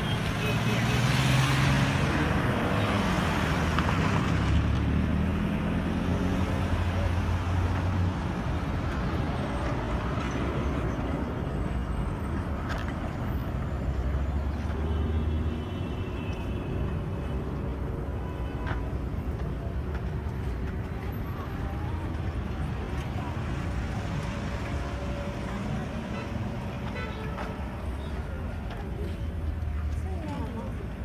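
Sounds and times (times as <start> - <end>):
road noise: 0.0 - 31.0
vehicles passing: 0.0 - 31.0.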